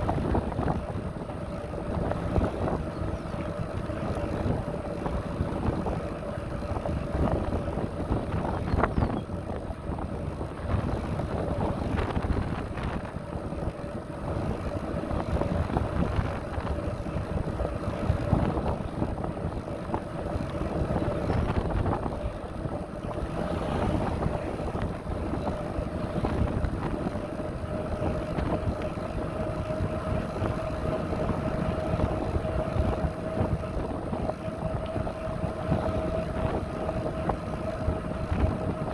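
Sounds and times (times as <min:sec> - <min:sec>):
bicycle tyres on rough path: 0:00.0 - 0:38.9
wind buffeting microphone: 0:00.0 - 0:38.9.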